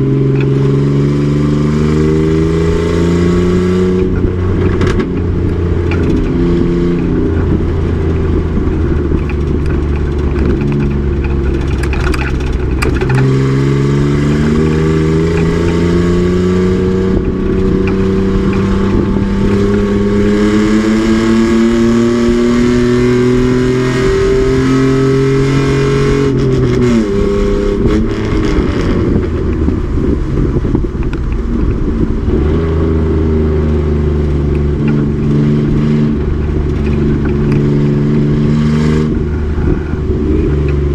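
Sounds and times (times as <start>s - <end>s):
truck engine accelerating: 0.0s - 40.9s.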